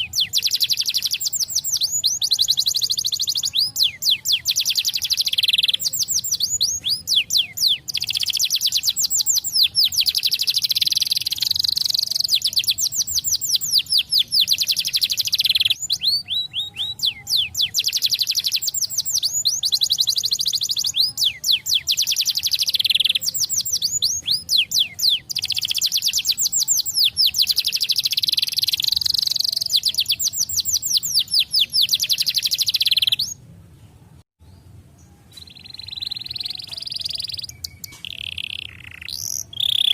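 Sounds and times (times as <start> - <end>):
canary singing trills: 0.0 - 33.4, 35.0 - 39.9.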